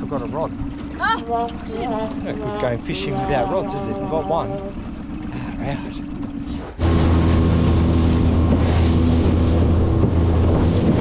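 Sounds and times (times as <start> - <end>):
outboard motor droning: 0.0 - 11.0
water noise: 0.0 - 11.0.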